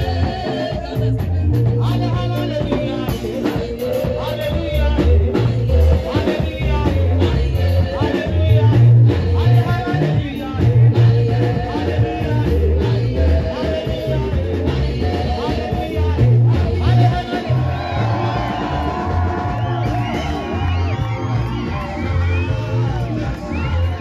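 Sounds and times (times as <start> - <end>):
amplified gospel band backing: 0.0 - 24.0.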